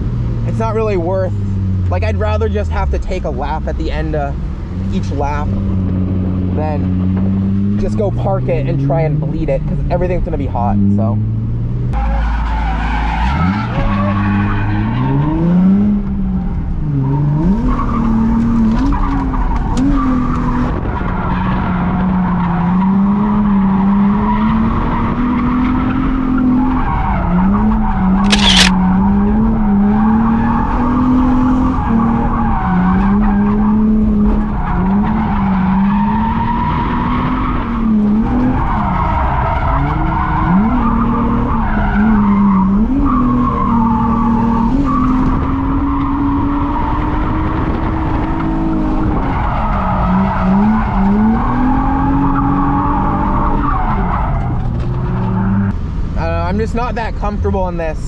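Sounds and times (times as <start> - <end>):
car engine revving: 0.0 - 57.6.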